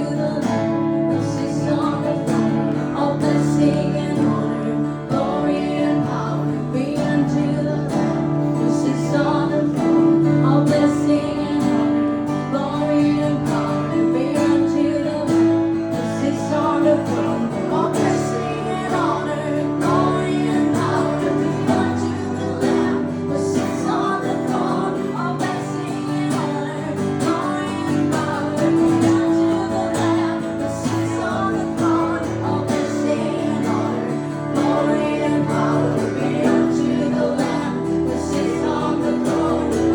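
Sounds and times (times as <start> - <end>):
person singing: 0.0 - 39.9
strummed acoustic guitar: 0.0 - 39.9.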